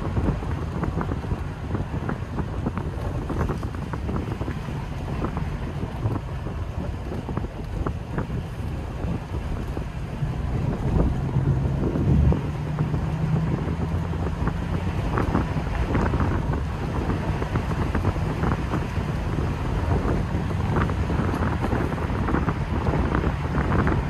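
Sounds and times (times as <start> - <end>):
car engine burbling: 0.0 - 24.0
wind buffeting microphone: 0.0 - 24.0.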